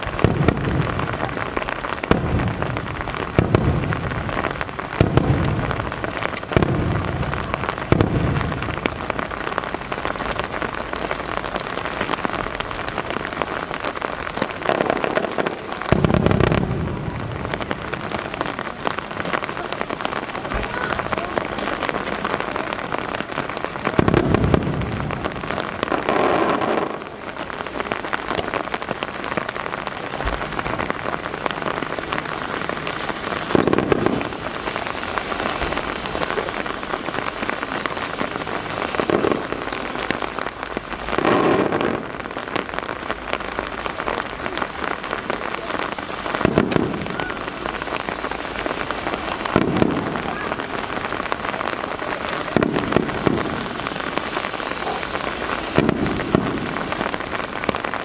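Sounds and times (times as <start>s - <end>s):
muffled fireworks booms: 0.0s - 58.0s
rain pattering: 0.0s - 58.0s.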